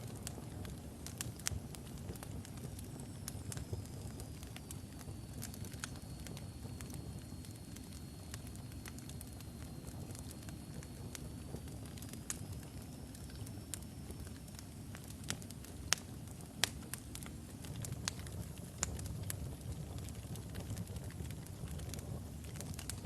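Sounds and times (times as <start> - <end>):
fire rumbling: 0.0 - 23.0
logs crackling and popping: 0.0 - 23.0.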